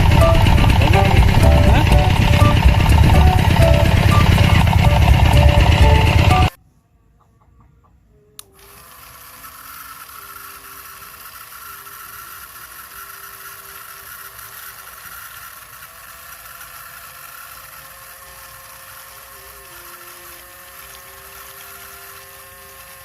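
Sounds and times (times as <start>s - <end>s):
small electric motor whirring: 0.0s - 6.6s, 8.4s - 23.0s.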